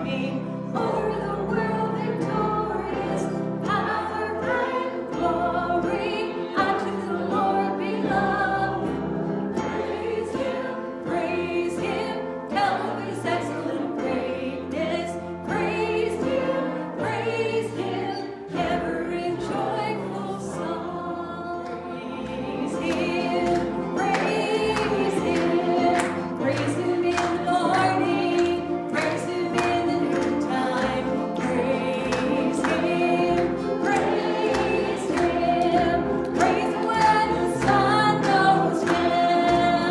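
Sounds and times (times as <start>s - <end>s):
group singing gospel music: 0.0s - 39.9s.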